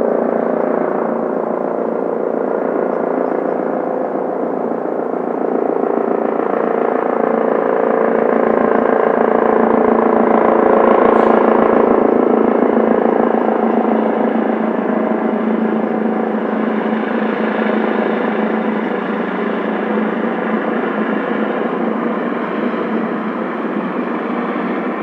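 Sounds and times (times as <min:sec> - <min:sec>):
helicopter rotor beating: 0:00.0 - 0:25.0.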